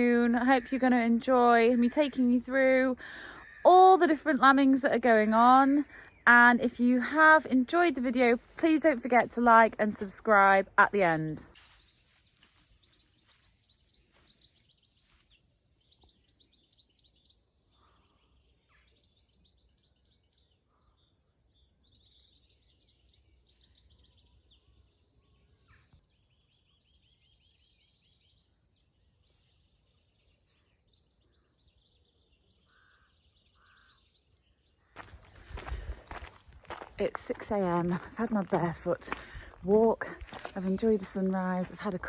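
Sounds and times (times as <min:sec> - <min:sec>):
songbirds chorus: 0:00.0 - 0:42.0.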